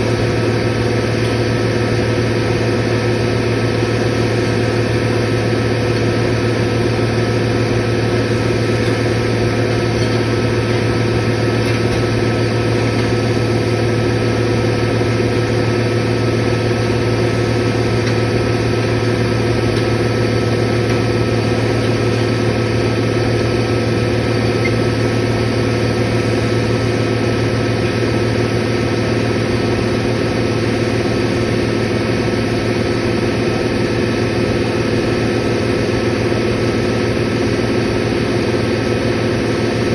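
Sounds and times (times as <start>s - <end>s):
refrigeration compressor humming: 0.0s - 39.9s.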